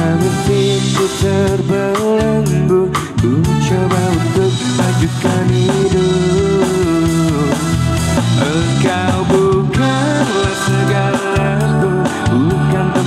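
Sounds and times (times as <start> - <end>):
backing music with drum beat: 0.0 - 13.0
man singing into microphone: 0.0 - 13.0.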